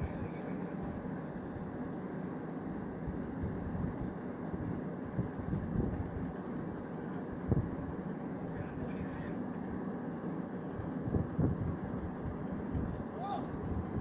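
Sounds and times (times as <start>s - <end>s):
boat engine rumble: 0.0s - 14.0s
wind: 0.0s - 14.0s.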